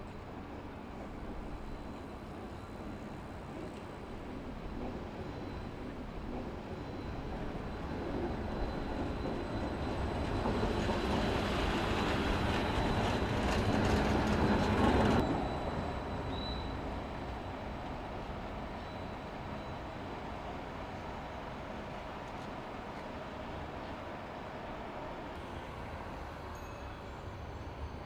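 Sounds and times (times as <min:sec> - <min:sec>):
train passing: 0:00.4 - 0:28.0.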